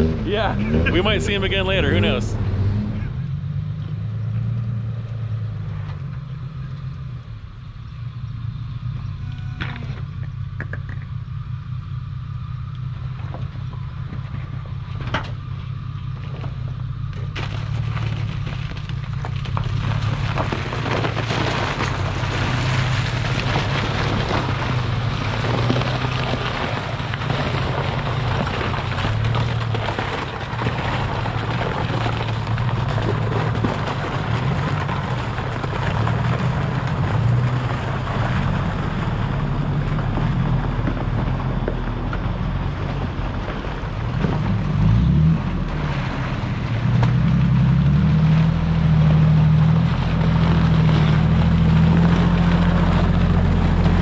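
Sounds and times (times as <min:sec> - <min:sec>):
off-road vehicle engine running: 0:00.0 - 0:54.0
tyres rumbling on rocky trail: 0:00.0 - 0:54.0.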